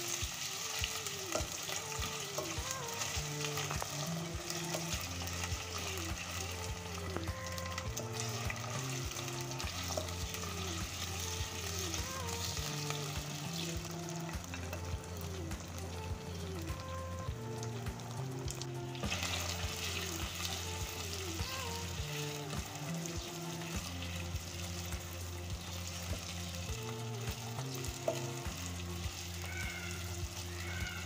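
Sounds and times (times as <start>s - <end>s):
background music with steady beat: 0.0s - 31.0s
potato slices sizzling in oil: 0.0s - 31.0s.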